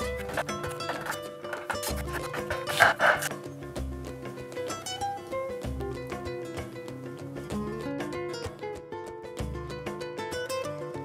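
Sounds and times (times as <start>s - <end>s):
plucked-string notes: 0.0s - 11.0s.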